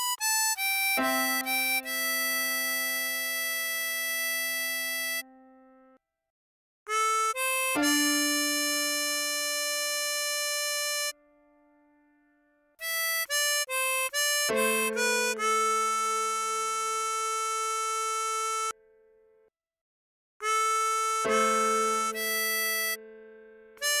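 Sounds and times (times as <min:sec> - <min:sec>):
tremolo harmonica melody: 0:00.0 - 0:06.0, 0:06.9 - 0:11.7, 0:12.8 - 0:18.8, 0:20.4 - 0:24.0.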